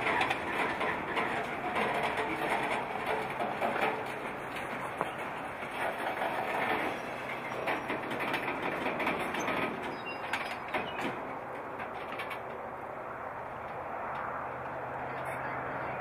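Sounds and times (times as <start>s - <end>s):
railcar clicks and knocks: 0.0s - 15.4s
steel wheels rumbling on rail: 0.0s - 16.0s.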